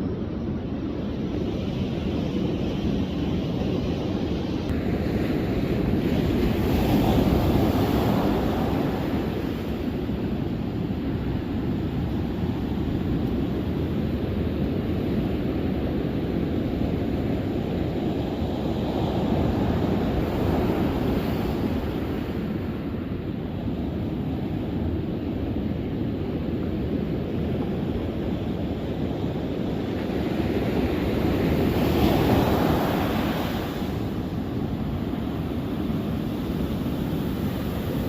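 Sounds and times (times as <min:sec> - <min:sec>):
wind buffeting microphone: 0:00.0 - 0:38.0
ocean surf washing ashore: 0:00.1 - 0:38.0.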